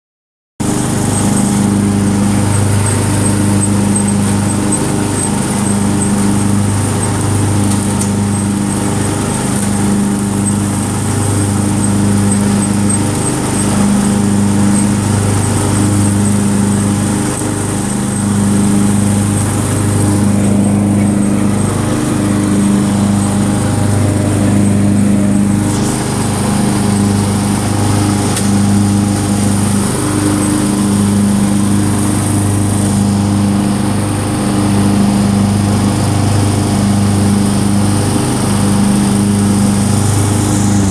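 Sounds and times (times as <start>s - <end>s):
tractor engine throbbing: 0.6s - 40.9s.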